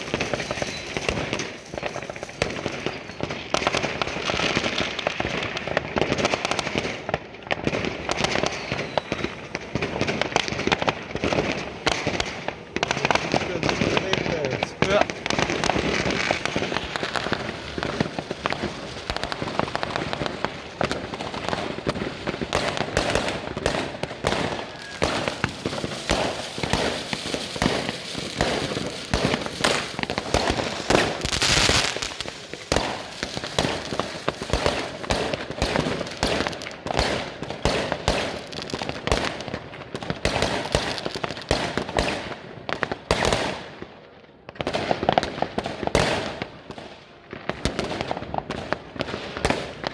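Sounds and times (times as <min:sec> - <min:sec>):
fireworks and firecrackers banging: 0:00.0 - 0:49.9.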